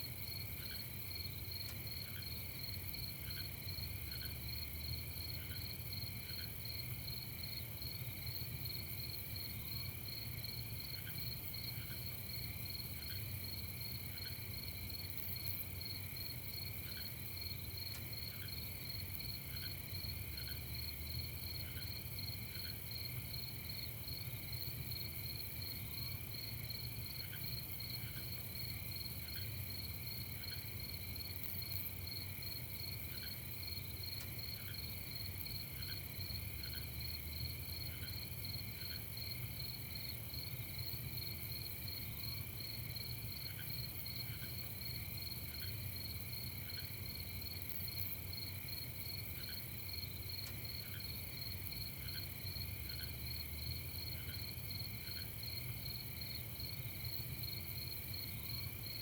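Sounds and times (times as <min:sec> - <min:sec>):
insects trilling: 0:00.2 - 0:59.0.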